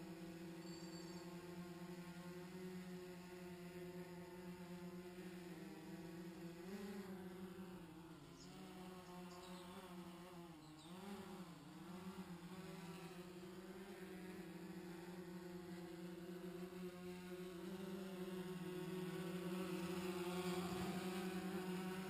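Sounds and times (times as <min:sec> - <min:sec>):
quadcopter propellers buzzing: 0:00.0 - 0:22.0.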